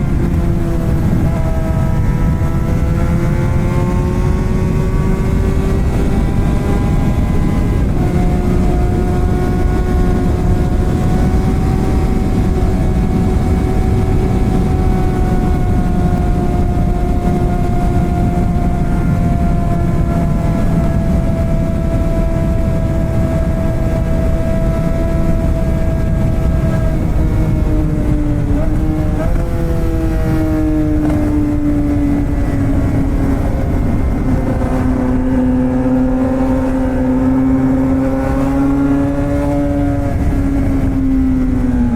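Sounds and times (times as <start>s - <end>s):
motorcycle engine at high revs: 0.0s - 41.9s
wind rushing over microphone: 0.0s - 41.9s.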